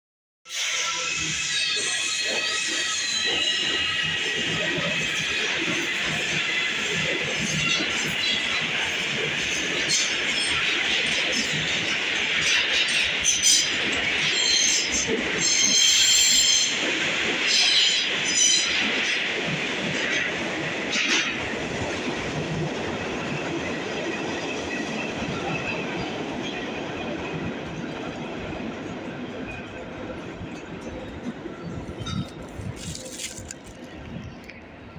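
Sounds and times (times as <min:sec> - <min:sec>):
subway trains rumbling: 0:00.5 - 0:34.9.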